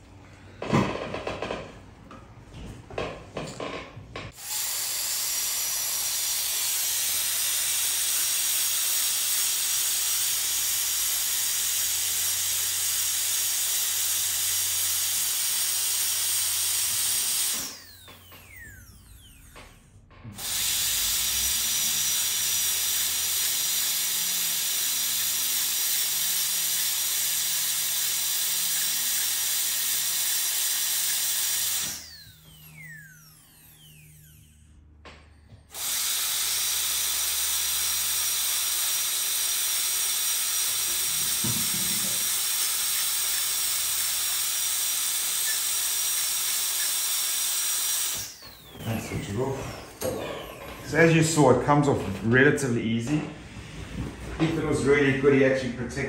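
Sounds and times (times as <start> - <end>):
dental drill whining: 3.4 - 51.9.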